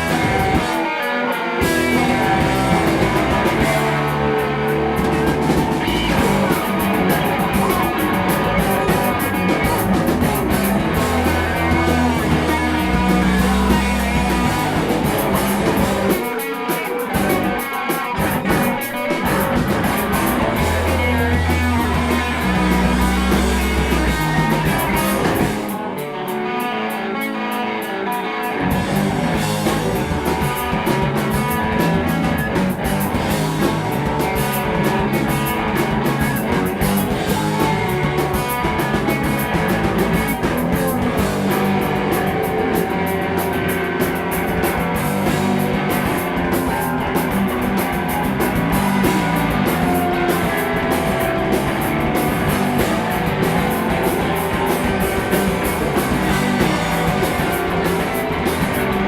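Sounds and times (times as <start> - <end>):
rock music: 0.0 - 59.0.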